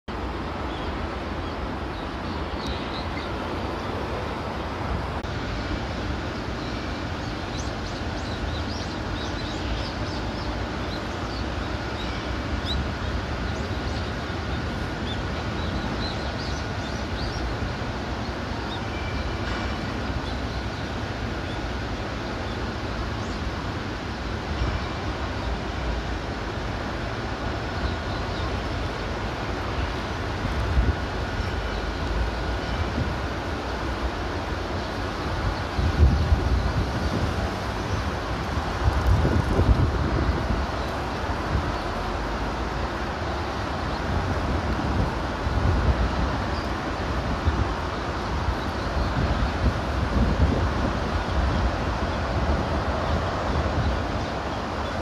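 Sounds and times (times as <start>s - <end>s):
outdoor background rumble: 0.1s - 55.0s.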